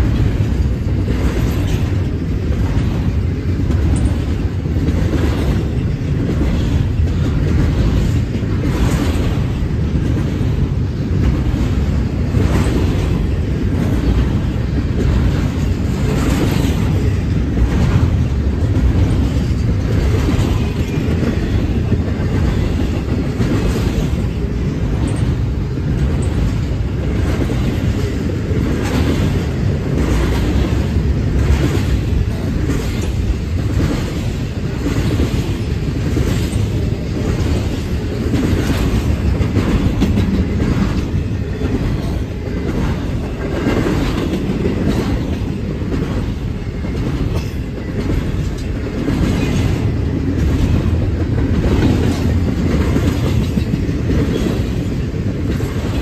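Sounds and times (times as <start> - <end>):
freight train rumbling past: 0.0 - 56.0
train wheels clacking over rail: 0.0 - 56.0.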